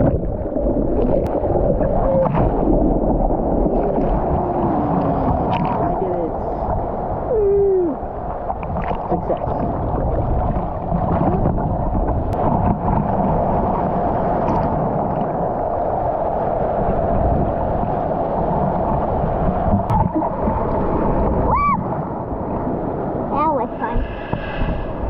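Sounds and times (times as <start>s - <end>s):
surf water churning and gurgling: 0.0s - 25.0s.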